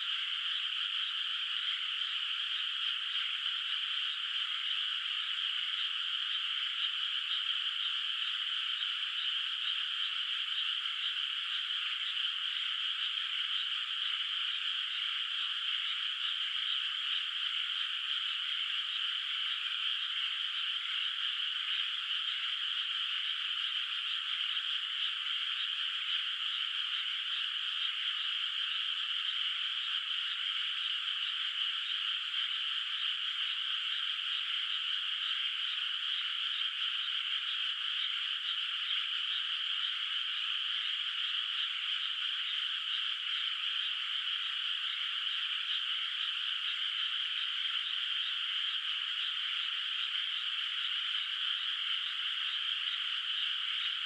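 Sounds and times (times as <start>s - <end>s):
chorus of frogs calling: 0.0s - 54.0s.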